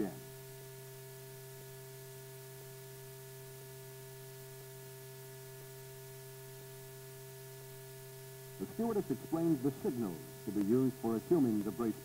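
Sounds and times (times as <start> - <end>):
low film soundtrack hum: 0.0 - 12.0.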